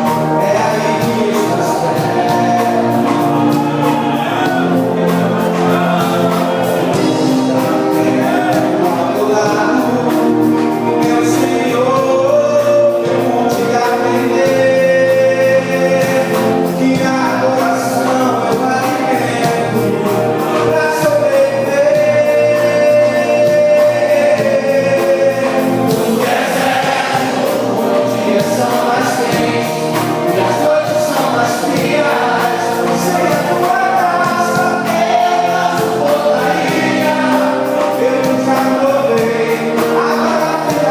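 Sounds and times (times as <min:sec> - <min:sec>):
group singing a hymn: 0:00.0 - 0:40.9
instrumental accompaniment with beat: 0:00.0 - 0:40.9.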